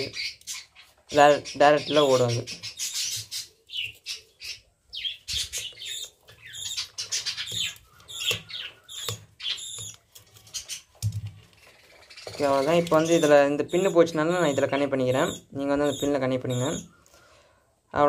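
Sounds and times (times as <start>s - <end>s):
birds chirping and squawking: 0.0s - 18.0s.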